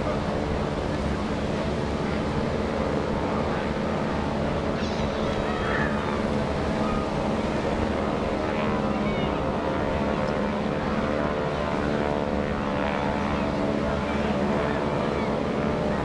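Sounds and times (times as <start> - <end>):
propeller plane flying overhead: 0.0 - 16.0.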